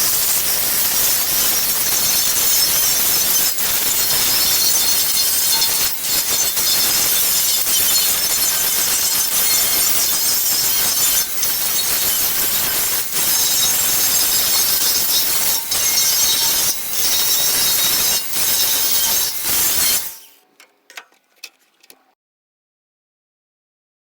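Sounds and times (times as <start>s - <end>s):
grinder grinding metal: 0.0s - 22.0s.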